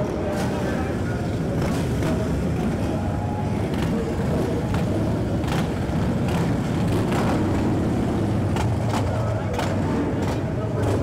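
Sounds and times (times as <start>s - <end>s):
motorcycle engines passing slowly: 0.0s - 11.0s.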